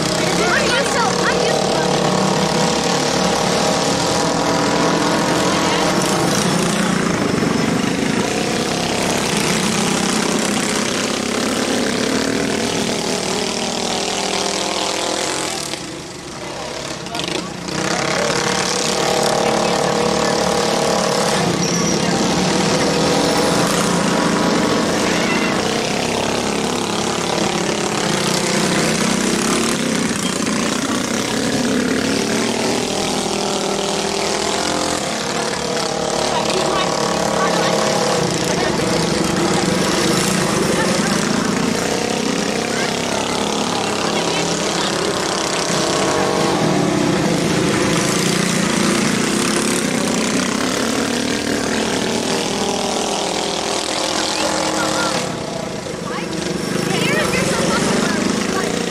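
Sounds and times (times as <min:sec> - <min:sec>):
minibike engines racing: 0:00.0 - 0:58.9.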